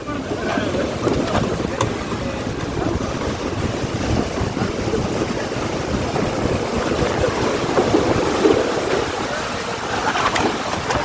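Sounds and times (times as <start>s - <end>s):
heavy rain: 0.0s - 11.0s
storm wind: 0.0s - 11.0s
wind buffeting microphone: 0.0s - 11.0s.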